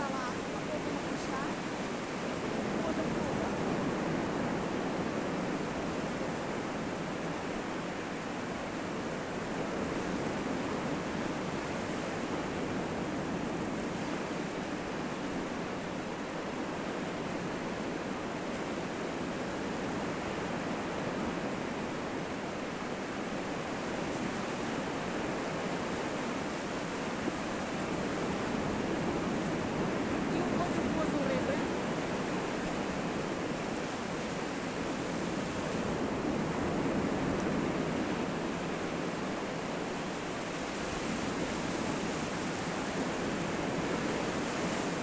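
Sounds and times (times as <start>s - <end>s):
sea surf on beach: 0.0s - 45.0s.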